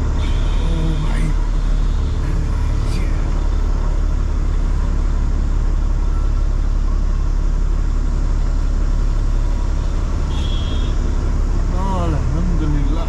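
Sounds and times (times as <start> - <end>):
road noise: 0.0 - 13.0
truck engine rumbling: 0.0 - 13.0.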